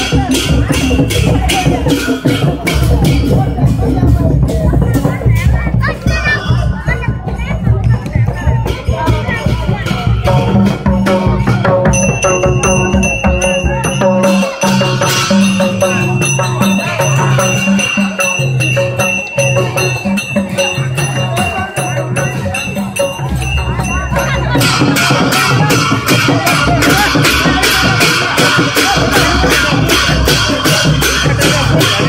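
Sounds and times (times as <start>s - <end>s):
cymbals clashing: 0.0s - 32.0s
drum beat: 0.0s - 32.0s.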